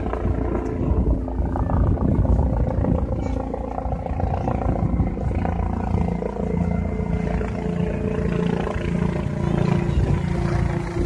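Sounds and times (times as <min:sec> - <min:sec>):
helicopter rotor rumble: 0:00.0 - 0:11.0
steady humming tones: 0:00.0 - 0:11.0.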